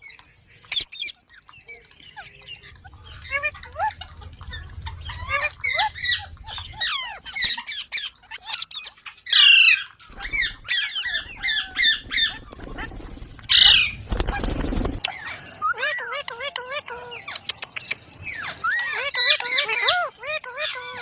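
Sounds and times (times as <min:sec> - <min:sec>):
parrots chirping and squawking: 0:00.0 - 0:21.0.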